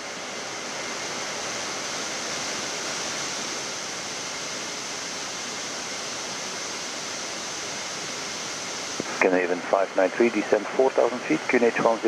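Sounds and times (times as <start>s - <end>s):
cockpit airflow hiss: 0.0s - 12.0s.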